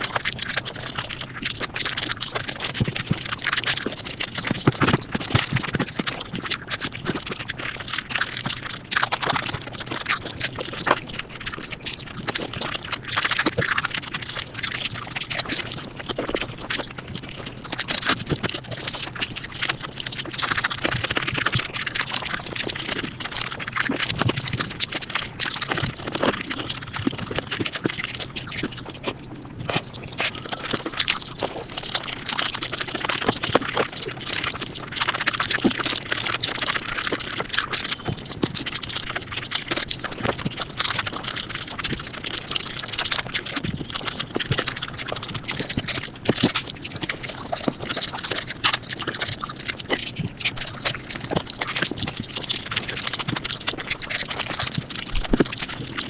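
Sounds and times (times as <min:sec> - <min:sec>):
sped-up chewing and crunching: 0:00.0 - 0:56.0.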